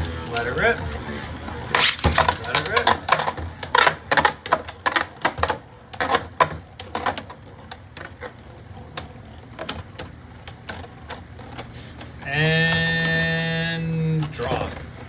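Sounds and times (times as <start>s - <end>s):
spinning tops clicking together: 0.0s - 15.0s.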